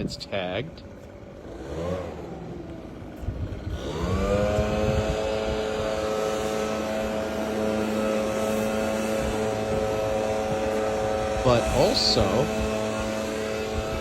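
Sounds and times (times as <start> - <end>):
motor spinning up: 1.4 - 14.0.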